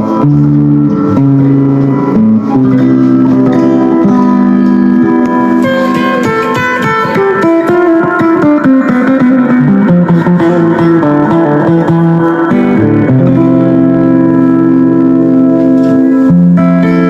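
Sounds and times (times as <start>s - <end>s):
electric guitar notes: 0.0s - 17.0s.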